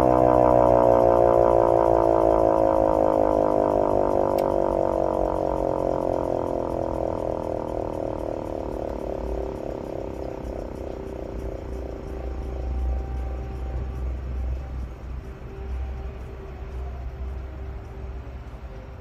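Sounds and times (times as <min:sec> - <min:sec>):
siren winding down: 0:00.0 - 0:18.2.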